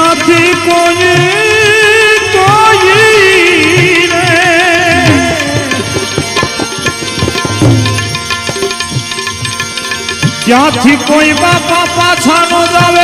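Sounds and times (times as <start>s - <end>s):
tabla strokes: 0.0s - 13.0s.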